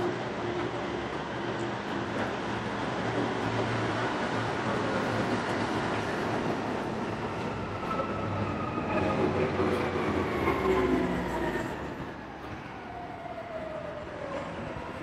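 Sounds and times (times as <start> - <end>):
train passing rumble: 0.0 - 15.0
train whine: 0.0 - 15.0.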